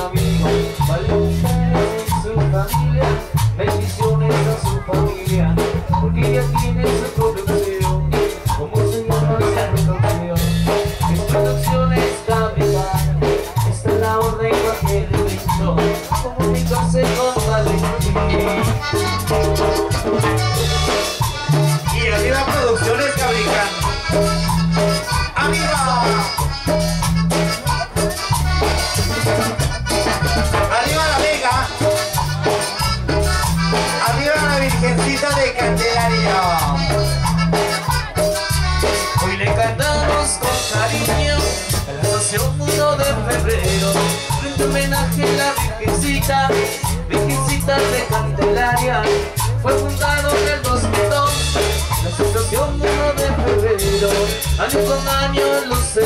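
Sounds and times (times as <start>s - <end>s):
latin dance music: 0.0s - 56.0s.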